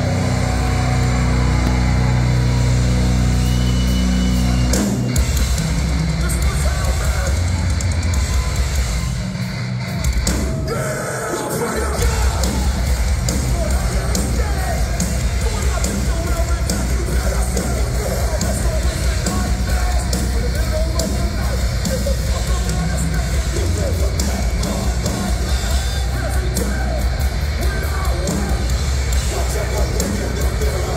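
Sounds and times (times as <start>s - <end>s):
hardcore band playing live: 0.0s - 30.9s.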